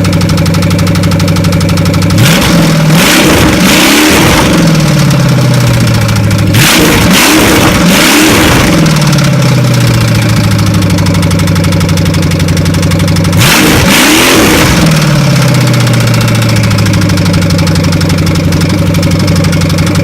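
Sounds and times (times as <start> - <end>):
truck engine idling and revving: 0.0 - 20.0.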